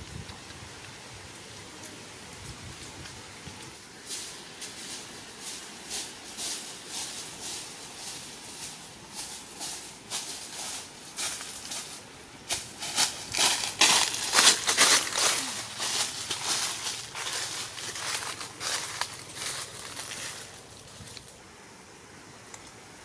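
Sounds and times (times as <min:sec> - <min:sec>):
footsteps crunching dry leaves: 0:02.4 - 0:21.4.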